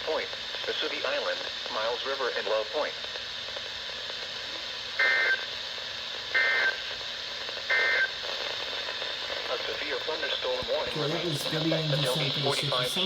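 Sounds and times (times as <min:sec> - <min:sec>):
static hiss: 0:00.0 - 0:13.0.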